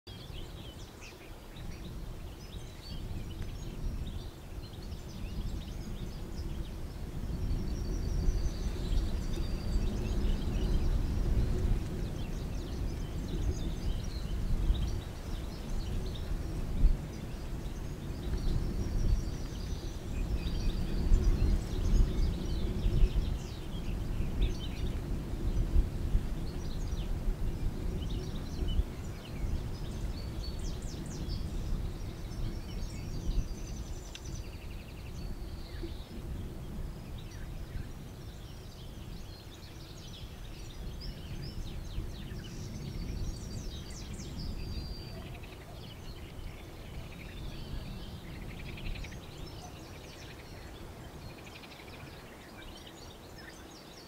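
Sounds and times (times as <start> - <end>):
songbirds chirping: 0.1 - 54.0
unsteady low rumble: 2.1 - 52.4.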